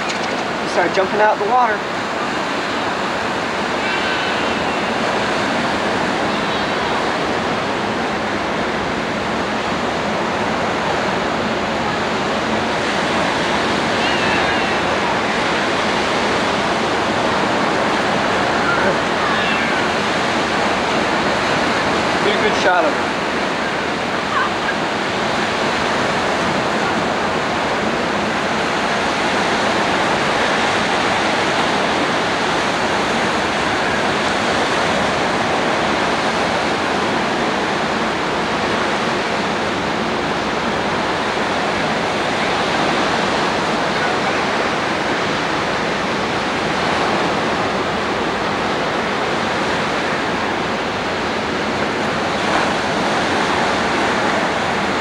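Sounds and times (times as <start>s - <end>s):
ocean surf breaking on beach: 0.0s - 55.0s.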